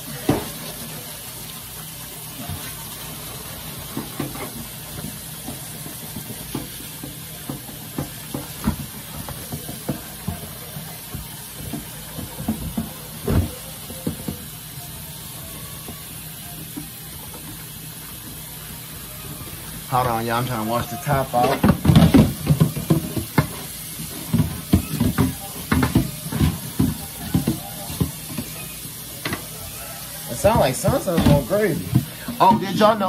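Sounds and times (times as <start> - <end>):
tap water running into sink: 0.0 - 33.0.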